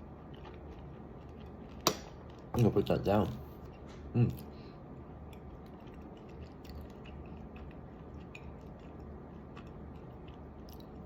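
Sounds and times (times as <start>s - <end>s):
faint crunchy chewing: 0.0s - 11.0s.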